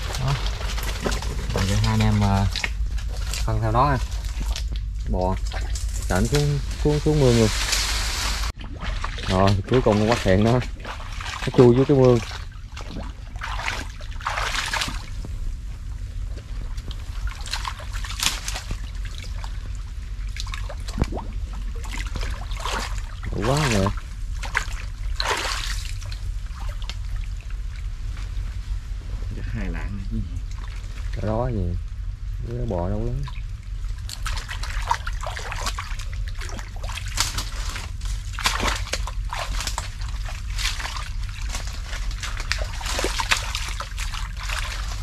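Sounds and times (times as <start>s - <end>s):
splashes in water: 0.0s - 15.2s, 16.6s - 27.9s, 33.2s - 45.0s
steady low rumble: 0.0s - 45.0s
water sloshing and trickling: 0.0s - 45.0s.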